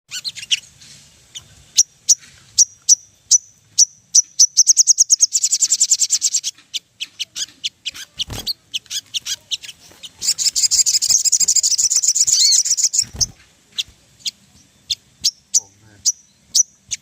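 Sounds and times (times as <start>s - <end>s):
songbird chip notes and trill: 0.1s - 17.0s.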